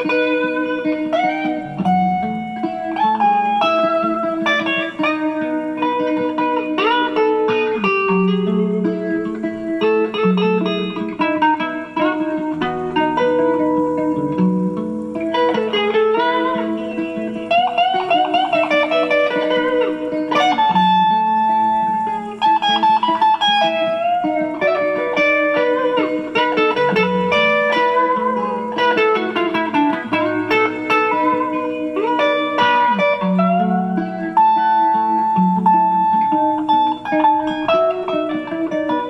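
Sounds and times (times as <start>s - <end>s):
electric guitar lead with bends: 0.0s - 39.0s.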